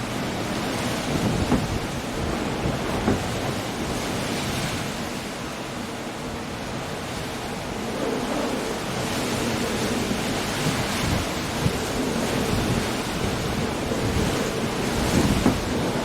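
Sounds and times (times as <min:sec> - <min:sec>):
rain: 0:00.0 - 0:16.0
surf against rocks: 0:00.0 - 0:16.0.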